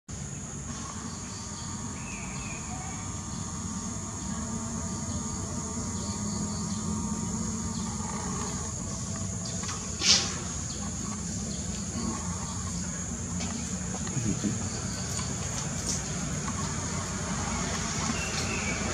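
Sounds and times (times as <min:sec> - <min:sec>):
high-pitched insect chorus: 0:00.1 - 0:18.9.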